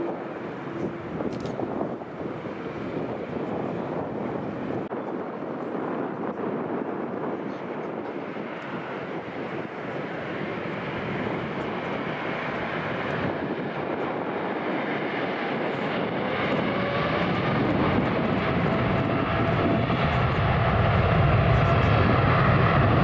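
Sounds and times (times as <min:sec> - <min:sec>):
jet engines at taxi power: 0:00.0 - 0:23.0.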